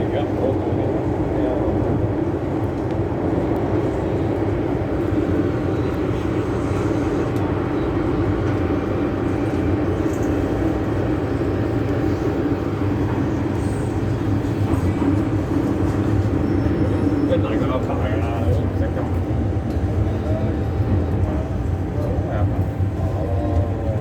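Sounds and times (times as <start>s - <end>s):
train carriage rumble and hum: 0.0s - 24.0s.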